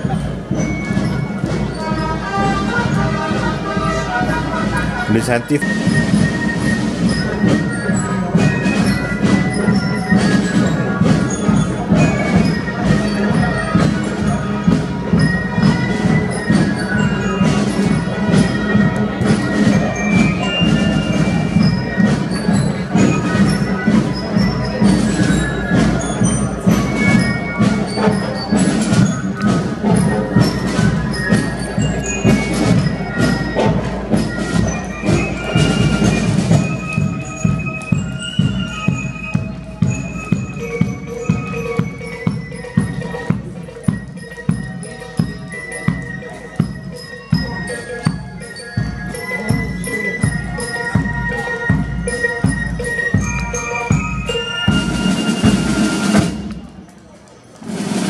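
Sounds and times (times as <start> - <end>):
bell-like melody: 0.0 - 56.6
marching band playing: 0.0 - 56.8, 57.6 - 58.0
steady drumming: 0.0 - 56.8.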